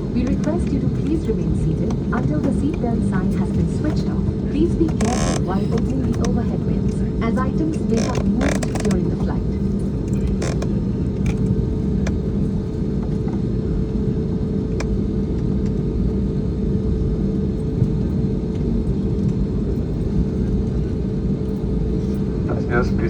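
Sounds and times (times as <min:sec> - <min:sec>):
airliner cabin rumble: 0:00.0 - 0:23.0
idling jet engines hum: 0:00.0 - 0:23.0.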